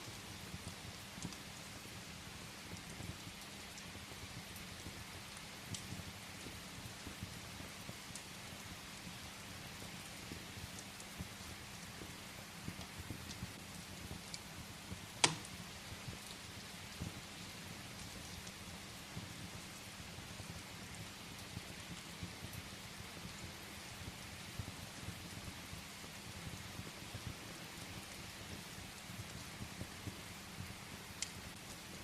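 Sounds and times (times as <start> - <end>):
rain hiss: 0.0 - 32.0
wood fire crackling: 0.0 - 32.0.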